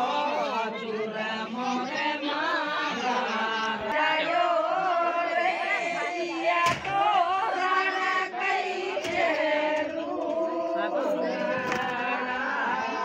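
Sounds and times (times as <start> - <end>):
crowd singing a wedding song: 0.0 - 13.0.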